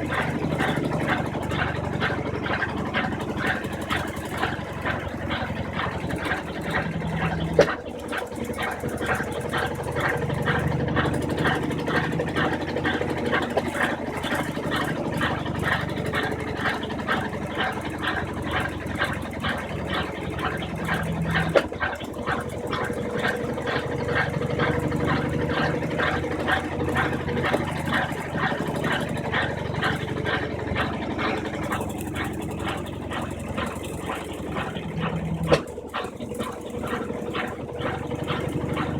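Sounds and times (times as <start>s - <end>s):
washing machine motor hum: 0.0s - 38.9s
water swishing in washing machine: 0.0s - 38.9s.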